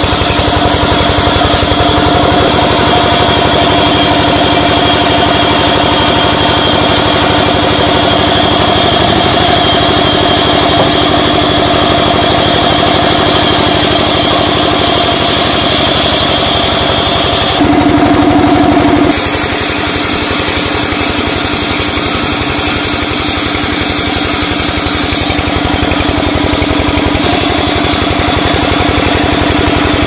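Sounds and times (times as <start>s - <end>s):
band saw sawing timber: 0.0s - 30.0s.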